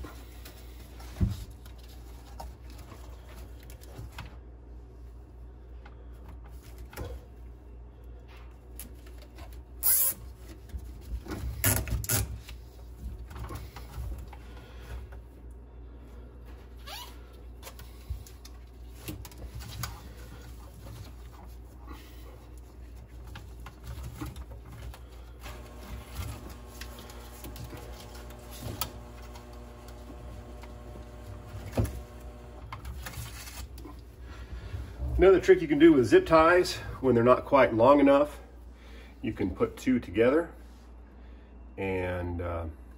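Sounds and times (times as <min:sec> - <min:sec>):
gloves rustling and scraping: 0:00.0 - 0:07.8, 0:08.4 - 0:36.6.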